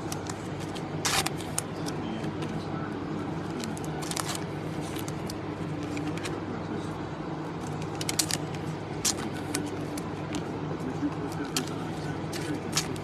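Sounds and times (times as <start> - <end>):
cards clicking and rustling: 0.0 - 2.6, 3.4 - 6.4, 7.6 - 13.0
steady low hum: 0.0 - 13.0.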